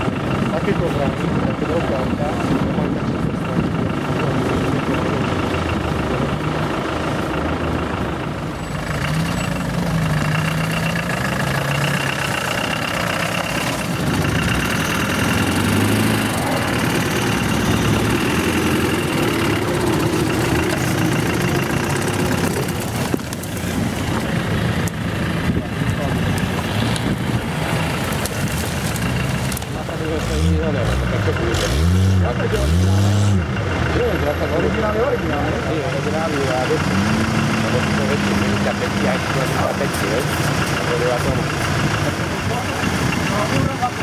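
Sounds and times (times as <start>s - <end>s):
engine revving up and down: 0.0s - 23.2s, 28.9s - 44.0s
off-road engines under load: 0.0s - 44.0s
tyres pushing through snow: 0.4s - 44.0s.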